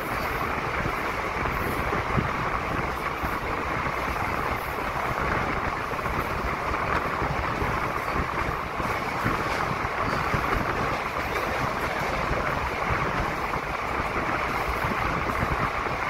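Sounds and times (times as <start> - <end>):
train rushing through a tunnel: 0.0 - 16.0.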